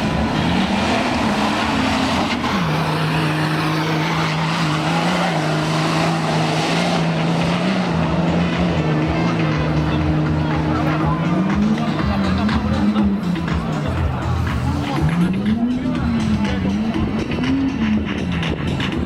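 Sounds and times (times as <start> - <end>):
off-road vehicle engine running hard: 0.0 - 19.0.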